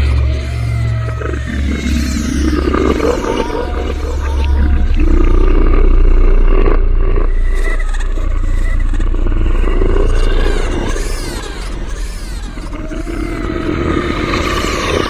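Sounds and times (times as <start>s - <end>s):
deep growling roar: 0.0s - 15.0s
low rumbling drone: 0.0s - 15.0s.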